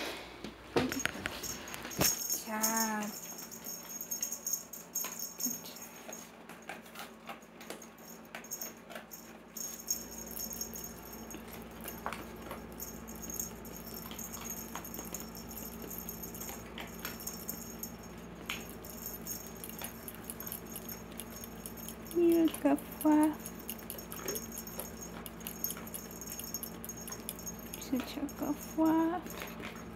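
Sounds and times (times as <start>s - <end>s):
wand toy jingling and rattling: 0.9s - 6.3s, 7.7s - 29.9s.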